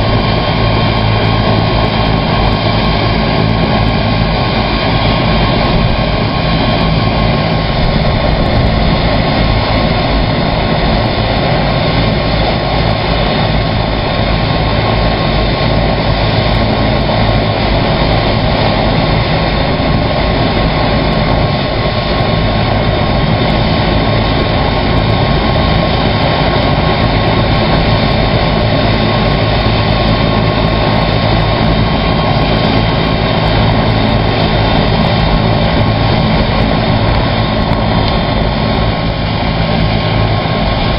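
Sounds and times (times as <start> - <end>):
helicopter idling: 0.0 - 40.9.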